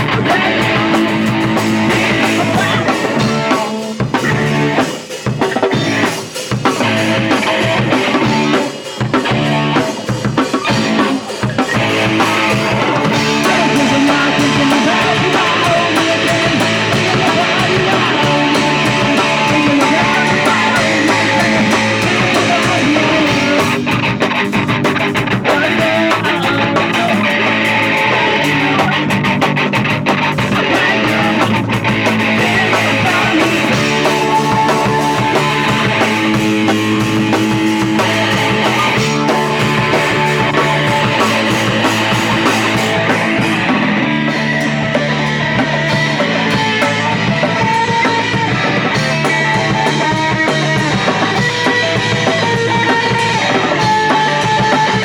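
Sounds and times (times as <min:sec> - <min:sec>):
drum kit playing: 0:00.0 - 0:55.0
electric guitar: 0:00.0 - 0:55.0.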